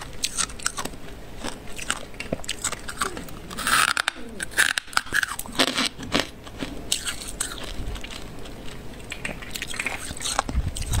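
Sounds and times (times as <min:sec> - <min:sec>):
frost being chewed crunching: 0:00.0 - 0:11.0.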